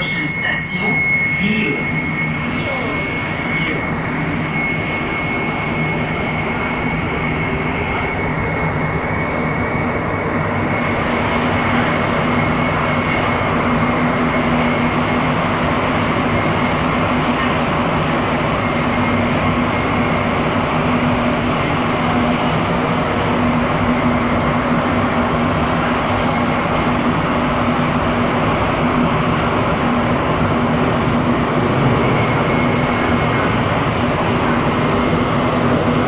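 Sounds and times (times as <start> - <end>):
high steady whine: 0.0 - 36.0
low hum: 0.0 - 36.0
metro train running noise: 0.0 - 36.0.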